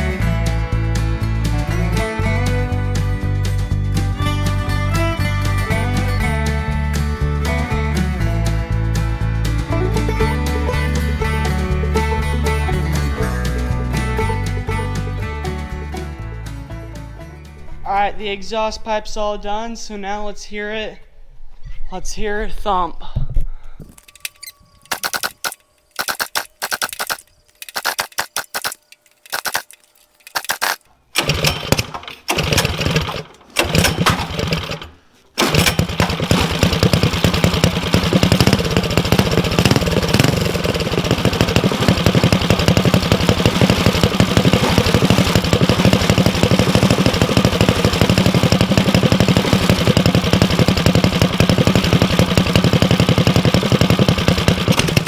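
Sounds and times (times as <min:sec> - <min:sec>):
small engine starting and running: 0:00.0 - 0:17.6, 0:24.0 - 0:55.0.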